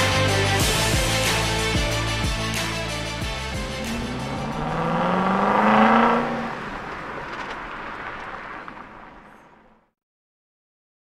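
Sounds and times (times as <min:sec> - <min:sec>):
car engine revving: 0:00.6 - 0:09.6.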